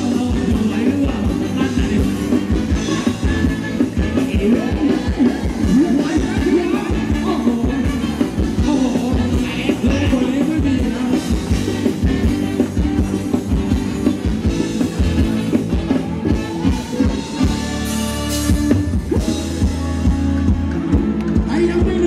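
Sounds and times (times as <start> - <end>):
live dance band playing: 0.0 - 22.0
steady drum beat: 0.0 - 22.0.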